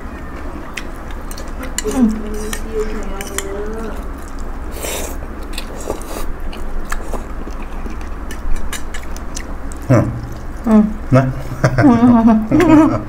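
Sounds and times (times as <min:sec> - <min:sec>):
people biting and chewing food: 0:00.0 - 0:11.6.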